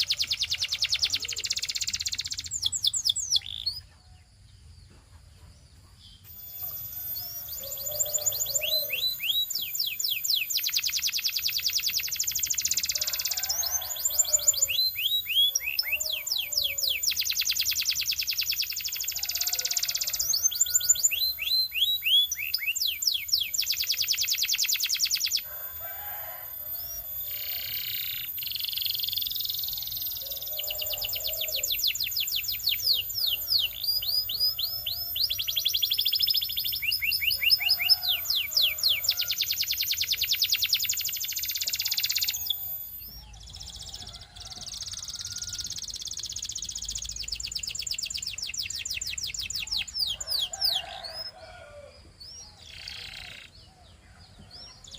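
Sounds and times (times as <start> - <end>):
canary singing trills: 0.0 - 4.8, 5.7 - 54.9.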